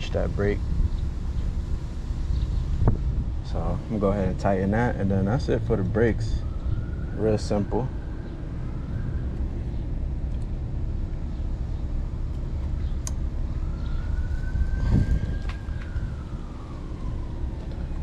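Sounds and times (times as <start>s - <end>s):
low rumble of traffic: 0.0s - 18.0s
distant emergency siren wailing: 0.2s - 18.0s.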